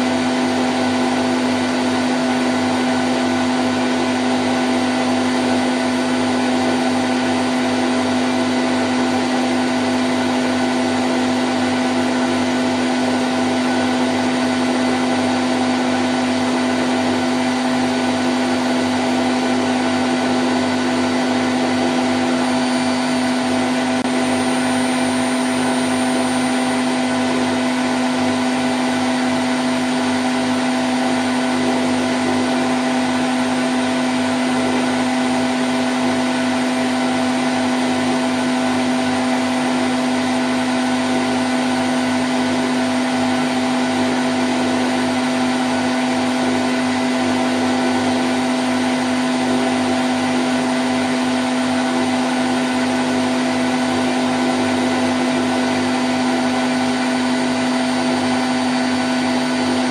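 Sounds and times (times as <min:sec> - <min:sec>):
washing machine spin cycle: 0:00.0 - 0:59.9.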